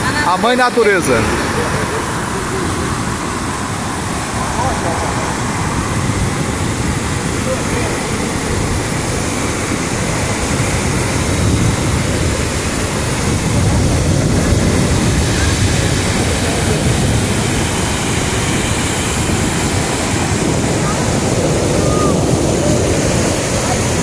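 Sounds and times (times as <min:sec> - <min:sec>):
waterfall roaring over rocks: 0:00.0 - 0:24.0.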